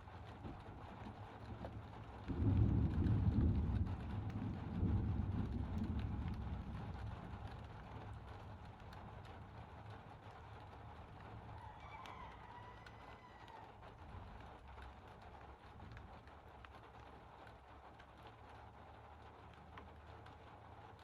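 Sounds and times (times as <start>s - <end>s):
faint rainfall: 0.0s - 21.0s.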